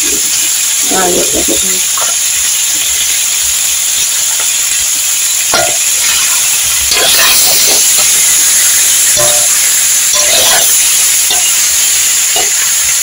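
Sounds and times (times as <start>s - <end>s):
vegetables sizzling in pan: 0.0s - 13.0s.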